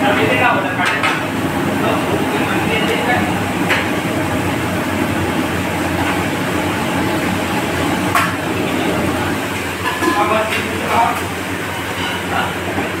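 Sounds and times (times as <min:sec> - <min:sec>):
gas burner rumble: 0:00.0 - 0:13.0.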